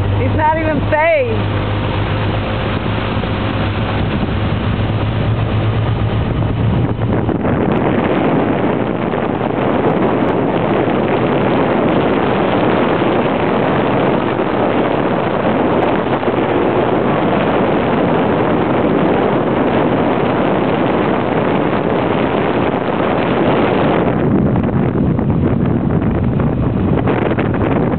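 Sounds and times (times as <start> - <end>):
boat engine running: 0.0 - 27.9
wind rushing over microphone: 0.0 - 27.9.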